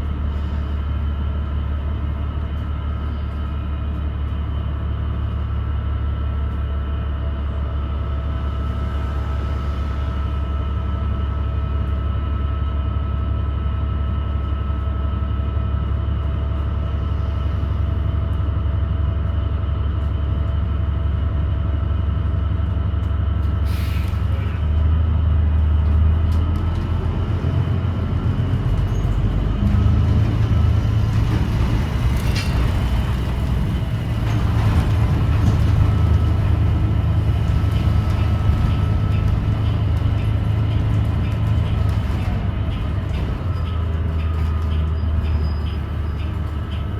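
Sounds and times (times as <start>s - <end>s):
bus drivetrain drone: 0.0s - 46.9s.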